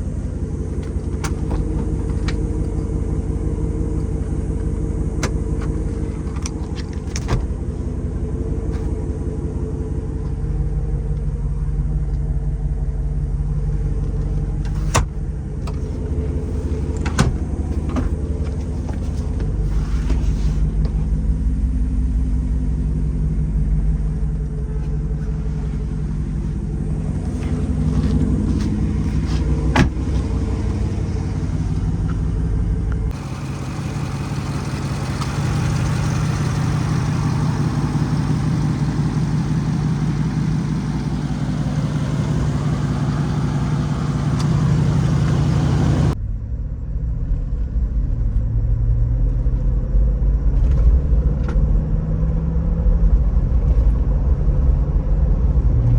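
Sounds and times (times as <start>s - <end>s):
deep engine exhaust note: 0.0s - 55.9s.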